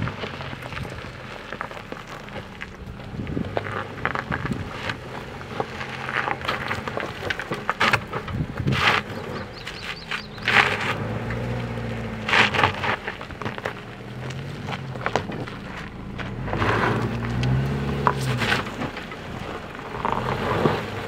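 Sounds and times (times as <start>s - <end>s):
low engine hum: 0.0s - 21.0s
tyres crunching over gravel: 0.0s - 21.0s.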